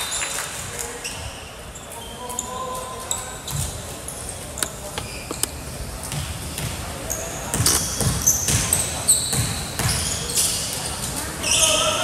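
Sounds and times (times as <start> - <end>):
murmur of the hall: 0.0 - 12.0
sneaker squeaks: 1.0 - 12.0.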